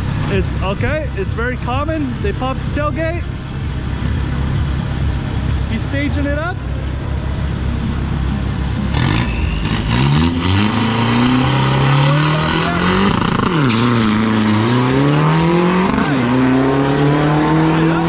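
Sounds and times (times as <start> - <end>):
diesel truck engine accelerating: 0.0 - 18.0.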